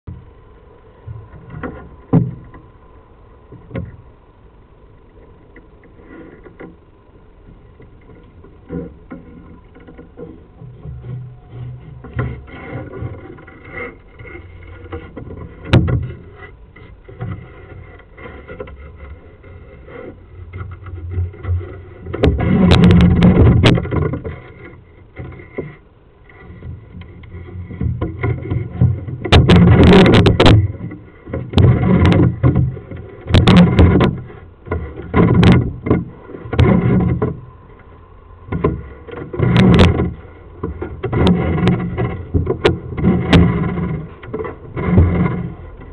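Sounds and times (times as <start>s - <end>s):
camera rumbling and scraping in pipe: 0.0s - 45.9s.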